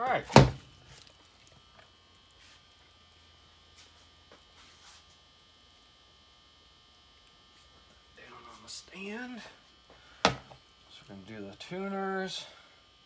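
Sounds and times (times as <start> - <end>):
fluorescent lights buzzing: 0.0 - 13.0.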